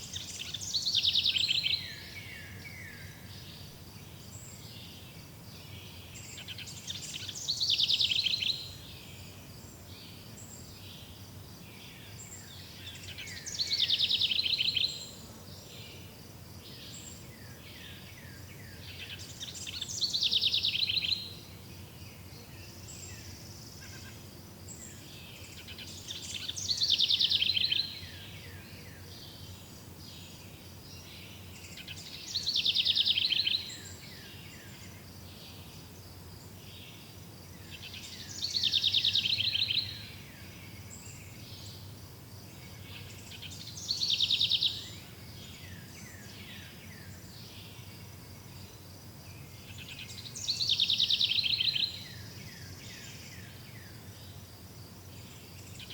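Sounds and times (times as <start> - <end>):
faint insect chirring: 0.0 - 55.9.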